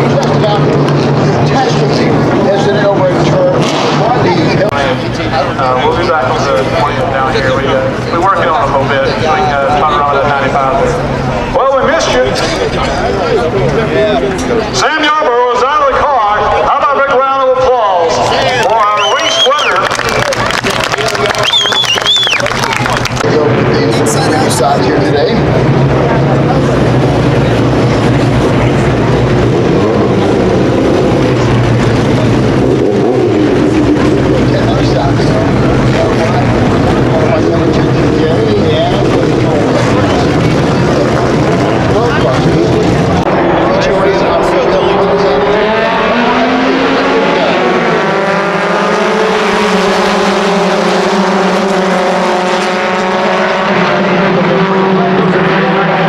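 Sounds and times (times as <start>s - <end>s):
race car engines droning: 0.0s - 56.0s.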